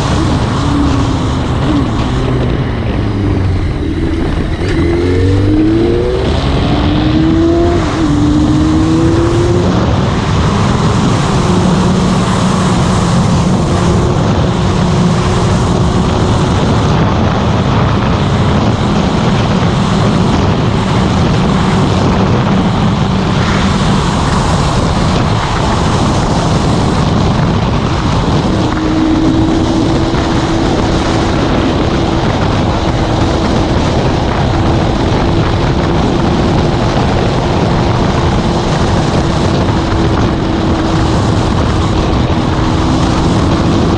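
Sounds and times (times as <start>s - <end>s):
motorcycle engine accelerating: 0.0s - 43.9s
wind and road noise: 0.0s - 43.9s.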